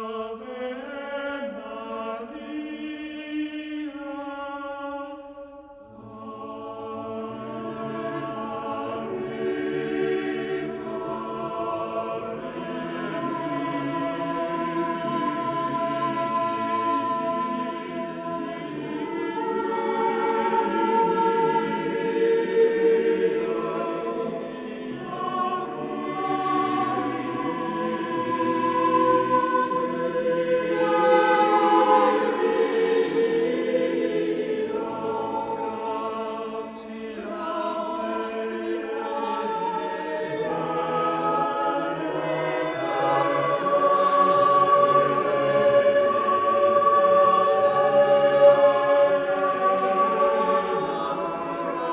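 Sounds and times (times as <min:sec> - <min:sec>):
choir singing sustained chords: 0:00.0 - 0:51.9.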